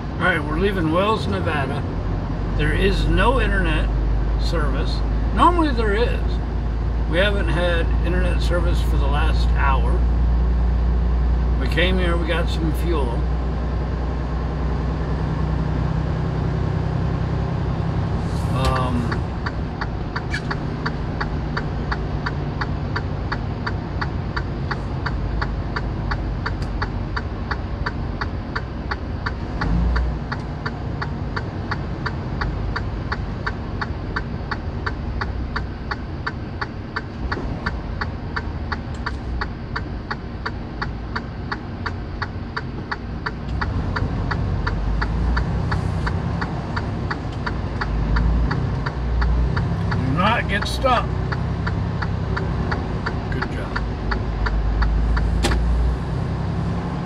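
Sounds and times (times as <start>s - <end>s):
diesel engine rumble: 0.0s - 57.0s.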